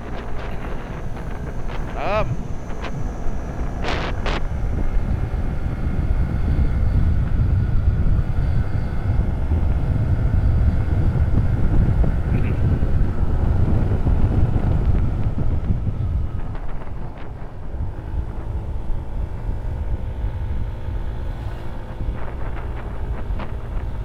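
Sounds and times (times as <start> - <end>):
motorcycle engine under throttle: 0.0 - 24.0
wind rush on microphone: 0.0 - 24.0.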